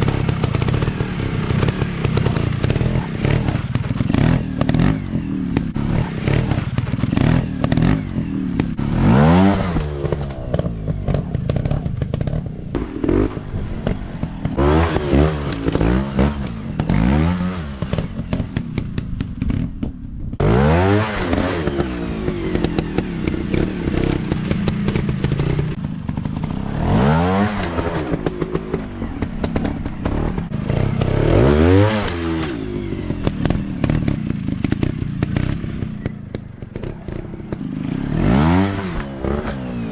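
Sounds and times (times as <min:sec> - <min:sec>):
dirt bike engine revving: 0:00.0 - 0:19.4, 0:20.3 - 0:39.9.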